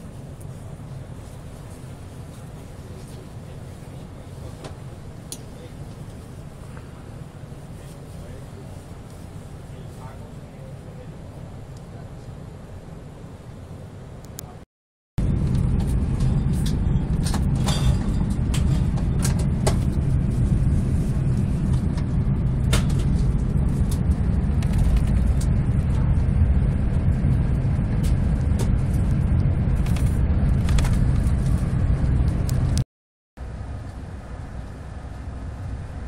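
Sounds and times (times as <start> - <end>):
train rumble inside passenger car: 0.0 - 14.6, 15.2 - 32.8, 33.4 - 36.0.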